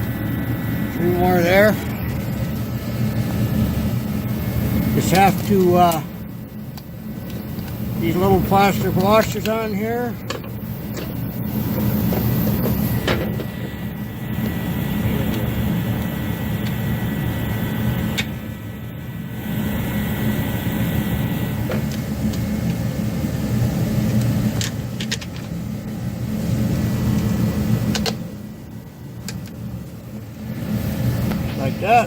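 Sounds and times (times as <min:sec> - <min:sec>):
low mechanical drone: 0:00.0 - 0:32.0.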